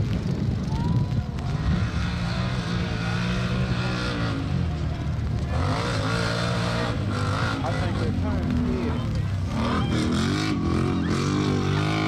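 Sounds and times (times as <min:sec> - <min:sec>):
racing engines revving: 0:01.4 - 0:12.0.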